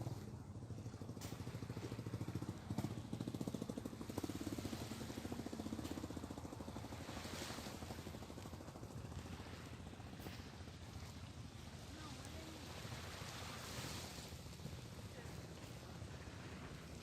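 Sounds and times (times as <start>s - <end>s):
small engine pulsing: 0.0s - 17.0s.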